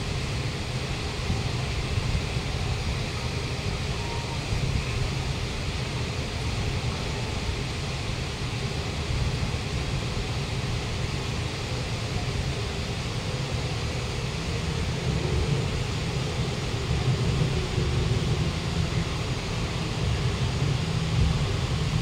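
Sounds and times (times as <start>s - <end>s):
faint hiss: 0.0s - 22.0s
metro station rumbling hum: 0.0s - 22.0s.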